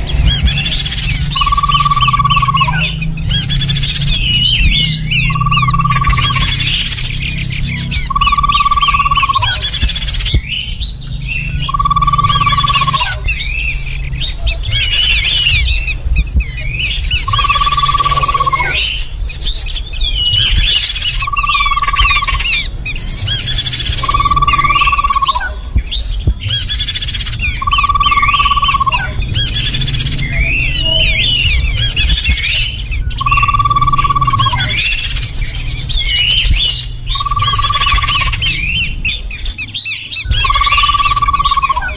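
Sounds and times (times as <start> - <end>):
birds chirping and twittering: 0.0 - 41.9
whistled bird note: 0.2 - 10.8, 11.4 - 41.9.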